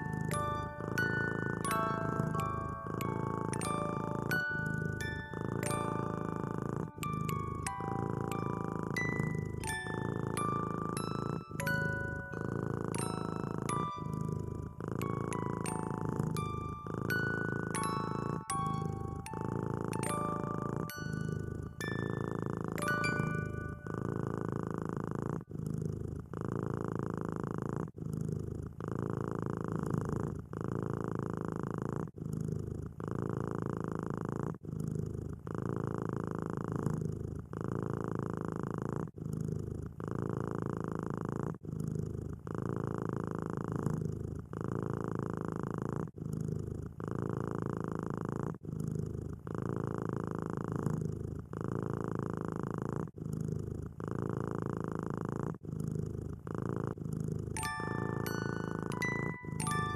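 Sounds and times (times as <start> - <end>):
kitten purring: 0.0 - 59.9.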